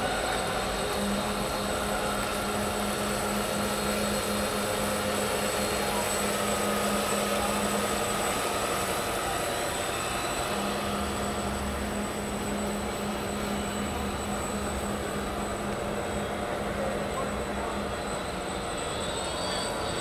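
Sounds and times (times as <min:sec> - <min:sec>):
model boat motor whine: 0:00.0 - 0:20.0.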